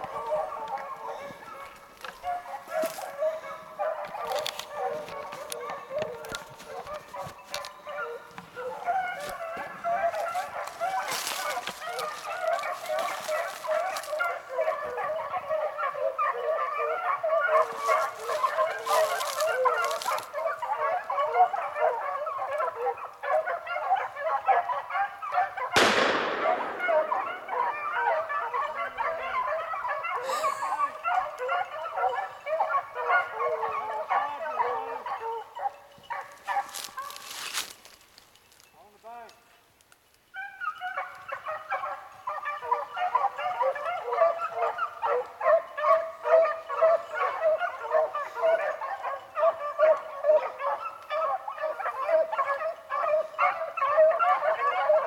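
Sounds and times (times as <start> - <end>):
hounds baying: 0.0 - 37.6, 40.4 - 55.0.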